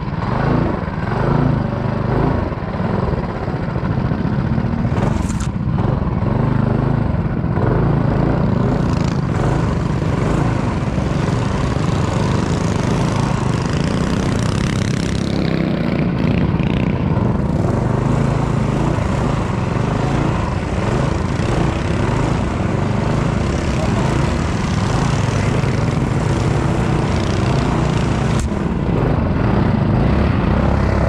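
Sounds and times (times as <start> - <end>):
small engine running at speed: 0.0 - 31.0.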